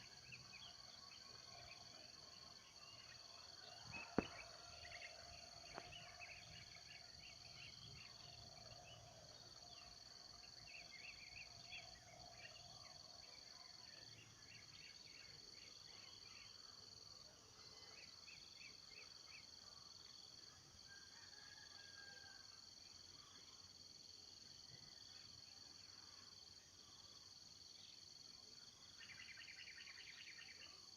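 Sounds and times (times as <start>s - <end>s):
insect chorus drone: 0.0s - 30.9s.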